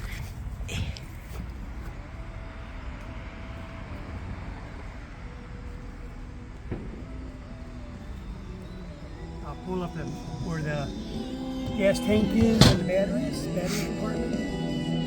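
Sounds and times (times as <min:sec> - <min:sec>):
motor rumble: 0:00.0 - 0:15.0.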